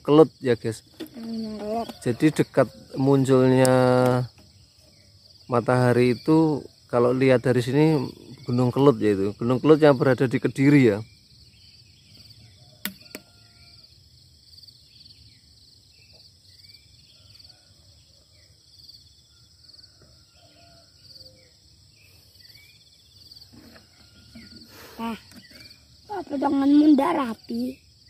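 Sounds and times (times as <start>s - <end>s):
faint bird chirps: 0.0s - 28.0s
insects chirring: 0.0s - 28.0s.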